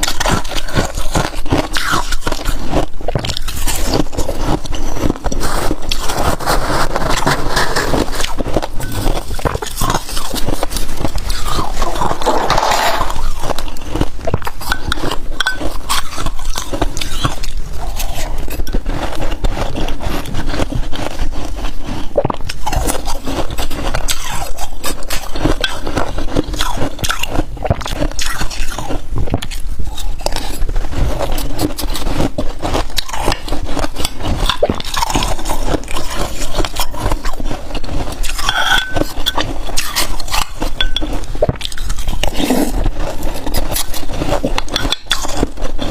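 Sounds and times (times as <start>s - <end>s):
frost crunching: 0.0s - 45.9s.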